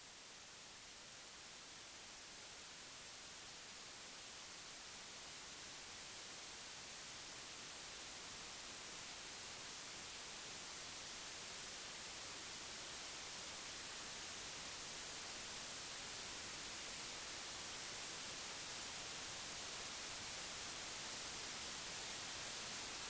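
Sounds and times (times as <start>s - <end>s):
television static hiss: 0.0s - 23.0s.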